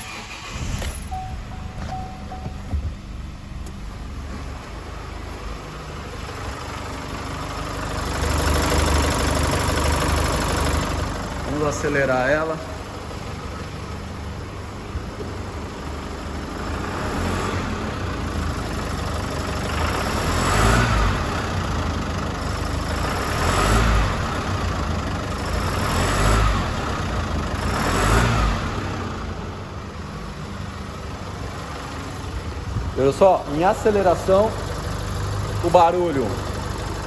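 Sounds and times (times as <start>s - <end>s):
diesel engine idling and revving: 0.0s - 37.0s
engine rattle under acceleration: 0.0s - 37.0s.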